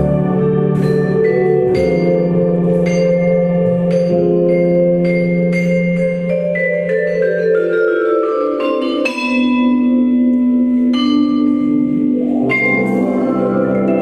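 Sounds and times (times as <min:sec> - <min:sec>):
mallet percussion music: 0:00.0 - 0:14.0.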